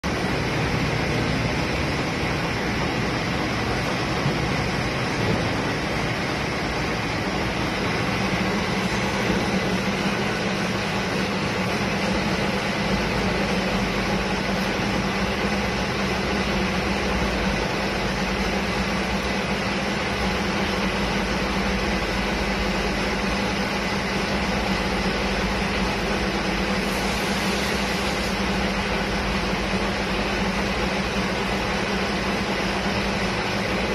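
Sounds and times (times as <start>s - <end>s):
lathe motor hum: 0.1s - 33.9s.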